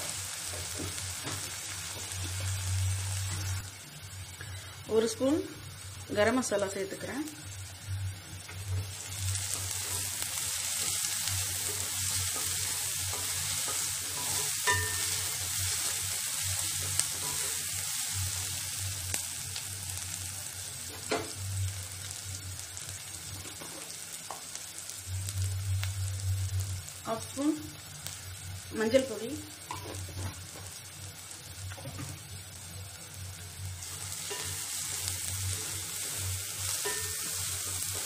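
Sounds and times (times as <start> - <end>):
onions sizzling in hot oil: 0.0 - 38.0.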